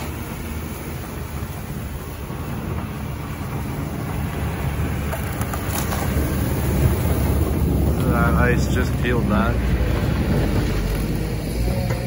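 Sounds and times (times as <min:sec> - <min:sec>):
wheel loader diesel engine rumbling: 0:00.0 - 0:12.0.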